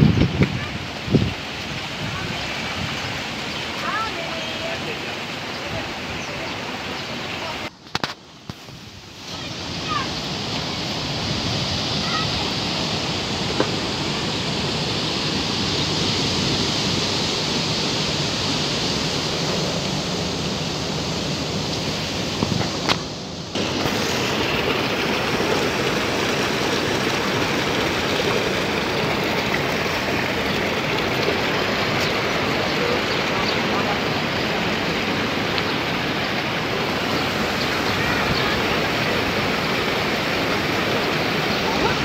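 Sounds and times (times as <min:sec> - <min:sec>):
water rushing through channels: 0:00.0 - 0:42.0.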